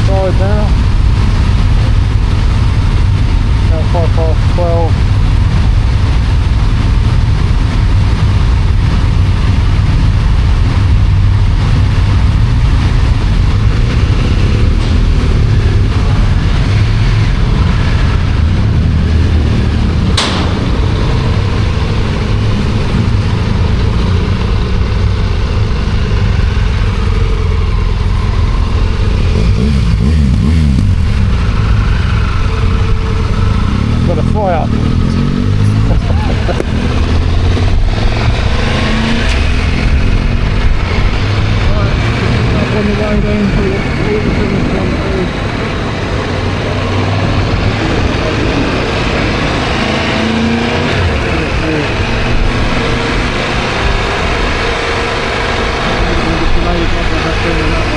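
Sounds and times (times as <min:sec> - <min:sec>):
motorcycle engine: 0:00.0 - 0:57.9
wind rumble: 0:00.0 - 0:57.9.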